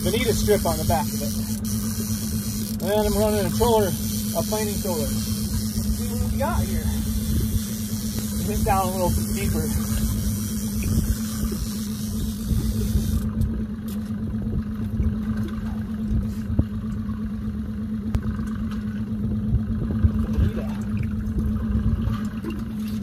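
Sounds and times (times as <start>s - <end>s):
outboard motor droning: 0.0s - 23.0s
wind and water rumble: 0.0s - 23.0s.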